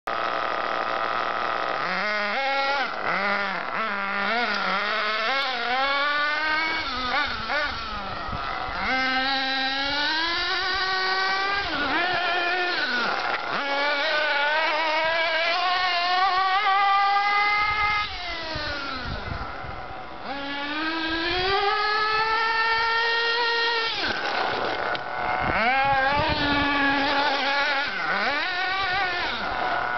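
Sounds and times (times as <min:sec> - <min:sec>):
small nitro engine revving: 0:00.1 - 0:29.9.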